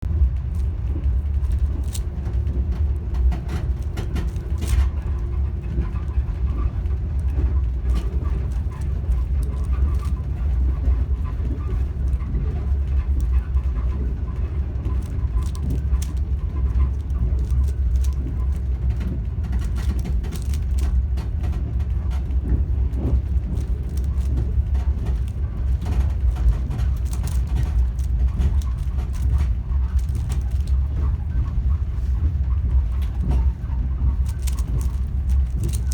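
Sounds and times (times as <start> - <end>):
train rumbling: 0.0 - 35.9.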